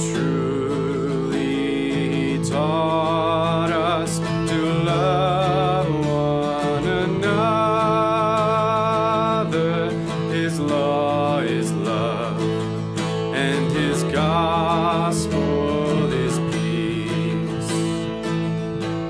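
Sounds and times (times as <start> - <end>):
person singing long notes: 0.0 - 18.0
acoustic guitar: 0.0 - 19.0.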